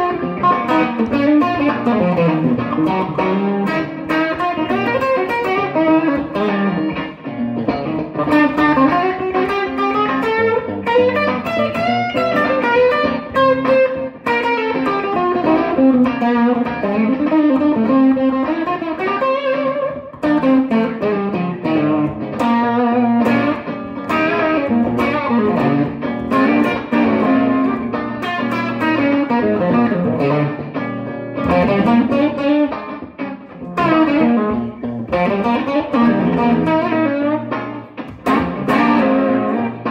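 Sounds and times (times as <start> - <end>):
electric guitar blues lines: 0.0 - 39.9.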